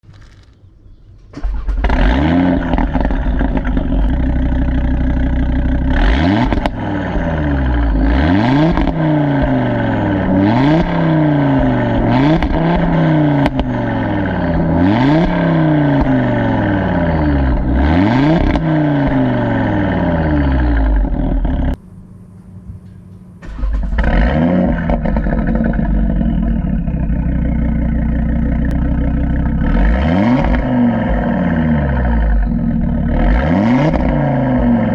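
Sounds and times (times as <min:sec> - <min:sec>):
car engine revving: 0:01.3 - 0:34.9.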